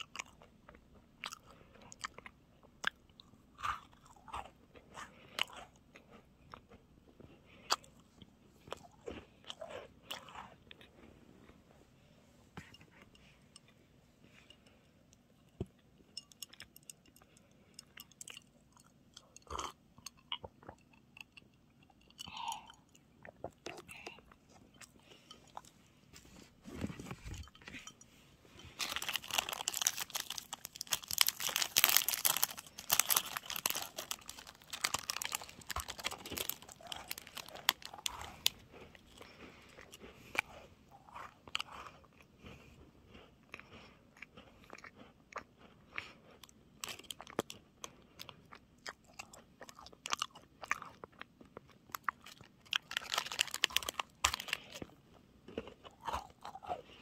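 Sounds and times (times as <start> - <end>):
crunching and chewing snack stick: 0.0 - 11.6, 16.2 - 25.8, 28.5 - 57.0.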